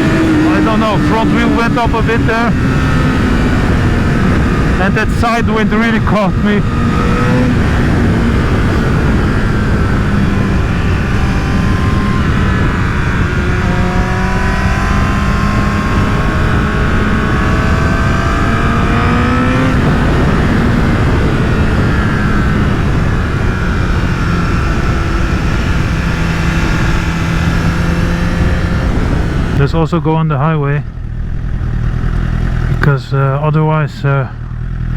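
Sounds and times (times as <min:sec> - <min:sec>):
wind buffeting microphone: 0:00.0 - 0:32.8
motorcycle engine accelerating: 0:00.0 - 0:34.9.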